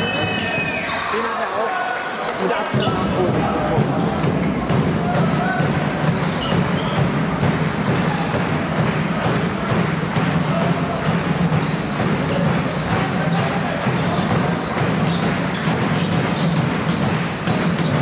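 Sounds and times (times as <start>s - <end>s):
murmur of crowd chatter: 0.0s - 18.0s
basketball bouncing on hardwood: 2.8s - 18.0s.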